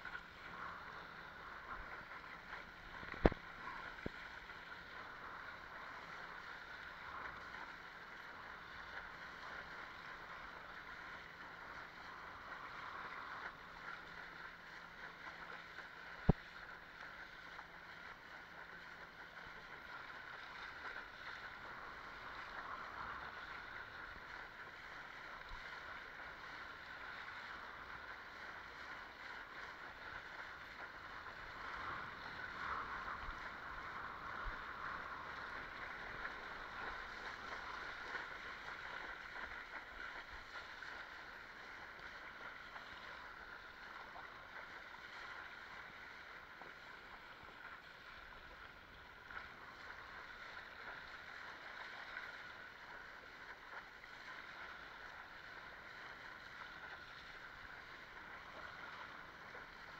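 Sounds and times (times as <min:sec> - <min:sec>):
water rushing along board hull: 0:00.0 - 0:59.9.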